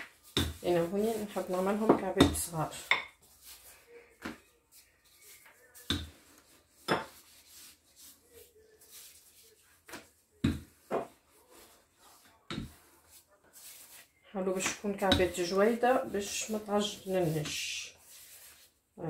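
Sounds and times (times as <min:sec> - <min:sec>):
rolling pin rubbing on dough: 0:00.0 - 0:18.9.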